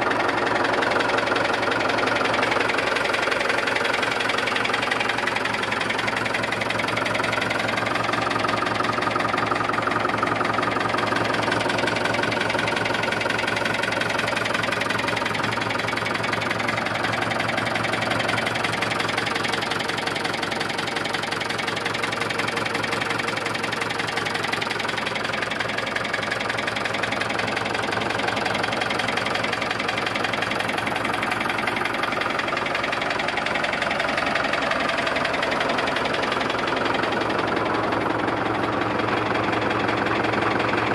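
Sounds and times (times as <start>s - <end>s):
tractor diesel engine idling: 0.0s - 40.9s.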